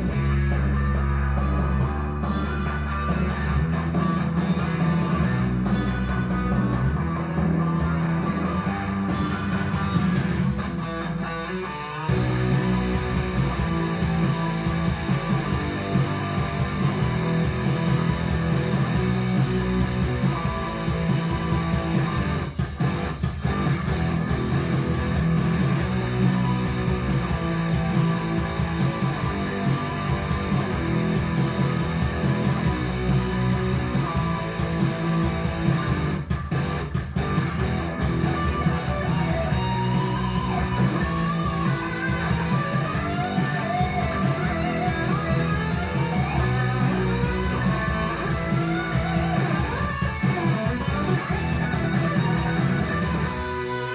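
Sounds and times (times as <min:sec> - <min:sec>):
guitar instrumental music: 0:00.0 - 0:53.9.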